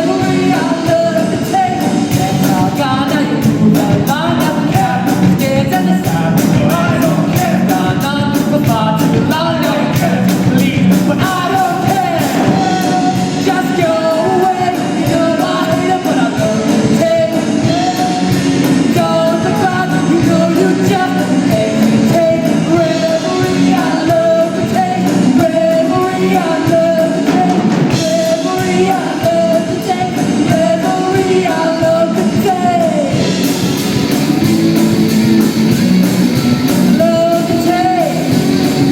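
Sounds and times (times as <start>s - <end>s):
man singing: 0.0s - 35.8s, 36.4s - 38.9s
drum kit beat: 0.0s - 38.9s
electric guitars: 0.0s - 38.9s.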